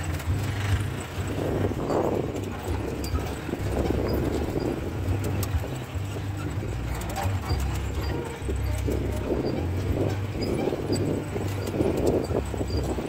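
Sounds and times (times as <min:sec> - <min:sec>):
knocks and rattles: 0:00.0 - 0:13.0
low engine rumble: 0:00.0 - 0:13.0.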